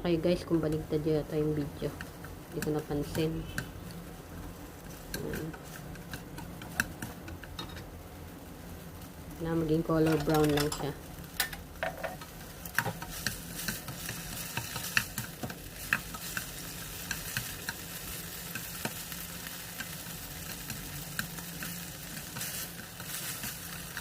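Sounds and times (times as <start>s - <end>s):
meat sizzling in oil: 0.0s - 24.0s.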